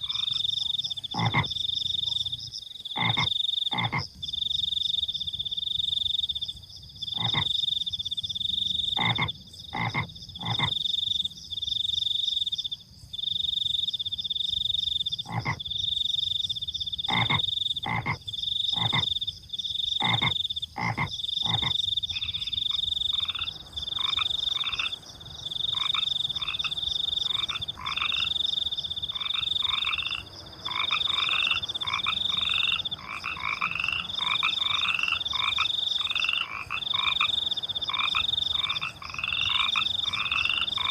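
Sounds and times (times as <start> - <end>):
crickets chirping: 0.0 - 40.9
frogs croaking: 0.0 - 40.9.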